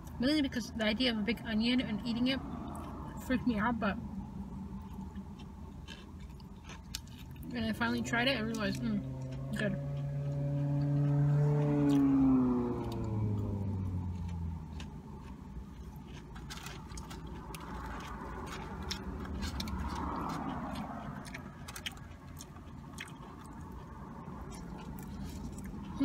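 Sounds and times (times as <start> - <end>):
low hum inside a car: 0.0 - 26.0
chewing crunchy fried food: 2.6 - 3.1, 4.4 - 26.0.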